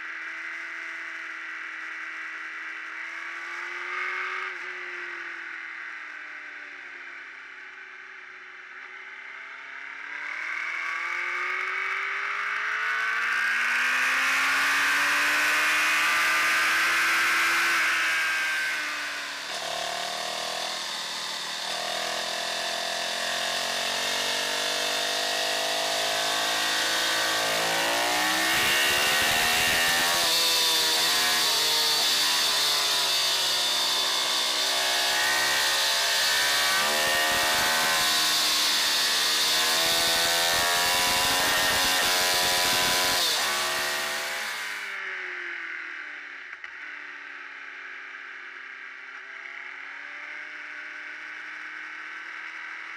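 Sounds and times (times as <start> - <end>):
motorcycle engine at full throttle: 0.0 - 52.9.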